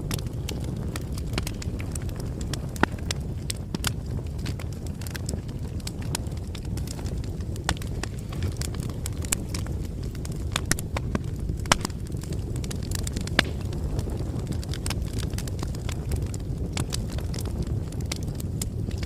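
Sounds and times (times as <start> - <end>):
bonfire crackling: 0.0 - 19.0.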